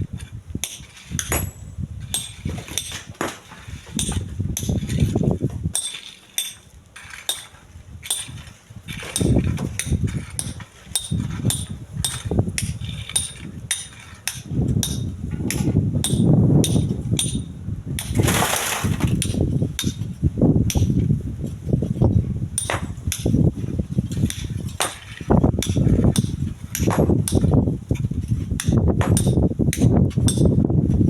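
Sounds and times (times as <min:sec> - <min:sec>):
wind buffeting microphone: 0:00.0 - 0:05.9, 0:06.7 - 0:31.0.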